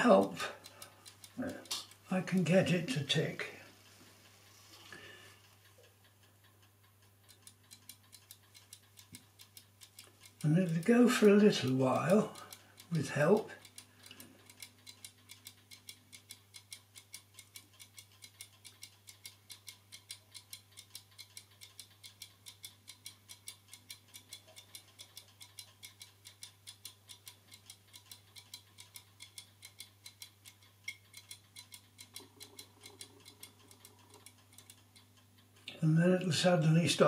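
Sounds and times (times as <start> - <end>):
clock ticking faintly: 0.0 - 37.0.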